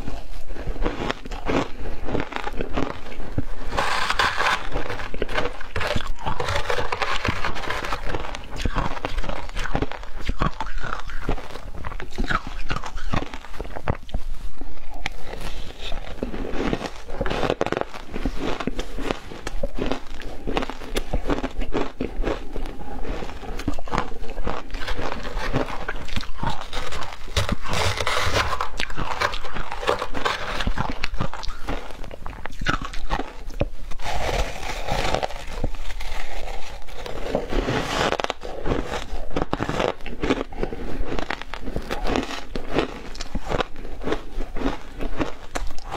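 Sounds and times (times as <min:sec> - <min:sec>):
crunching and chewing shaved ice: 0:00.0 - 0:45.9.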